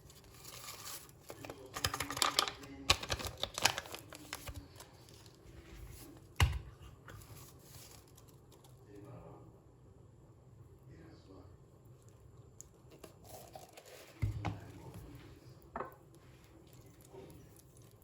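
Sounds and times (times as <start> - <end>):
rustling of objects: 0.0 - 9.1, 12.6 - 18.0.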